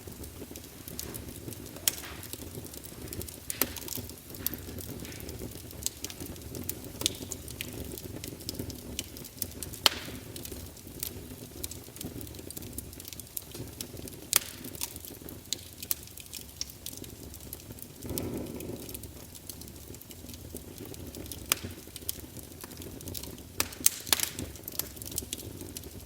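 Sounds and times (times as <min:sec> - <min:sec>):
low rumble of flame: 0:00.0 - 0:26.0
wood fire crackling and popping: 0:00.0 - 0:26.0.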